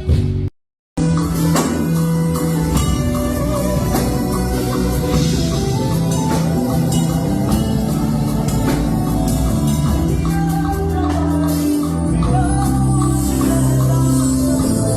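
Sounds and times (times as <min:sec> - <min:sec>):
music with steady beat: 0:00.0 - 0:14.9
person singing: 0:01.5 - 0:14.9.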